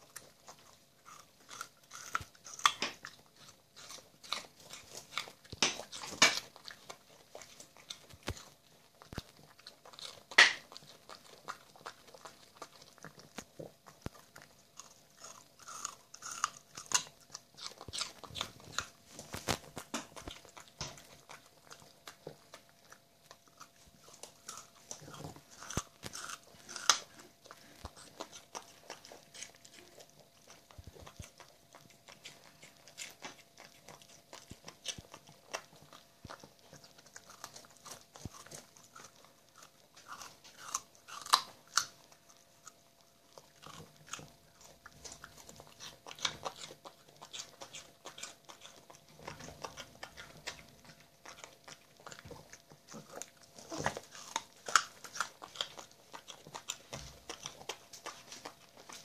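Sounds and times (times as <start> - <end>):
dog crunching a carrot: 0.0 - 59.0.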